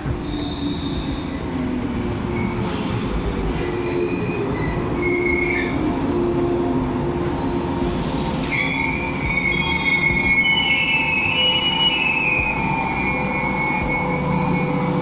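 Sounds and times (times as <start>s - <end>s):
train wheels squealing: 0.0s - 1.6s, 2.3s - 6.2s, 8.3s - 15.0s
train running rumble: 0.0s - 15.0s.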